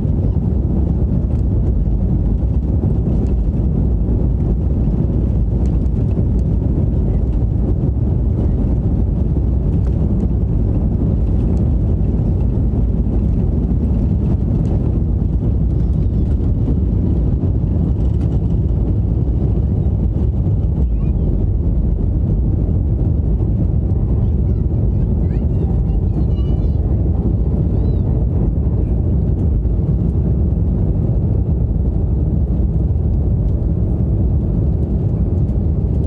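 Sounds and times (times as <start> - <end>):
jet engines roaring at takeoff: 0.0 - 36.0.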